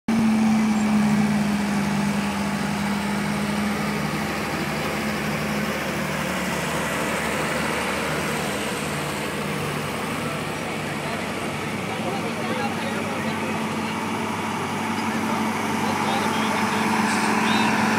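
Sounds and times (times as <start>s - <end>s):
pickup engine running: 0.1s - 17.9s.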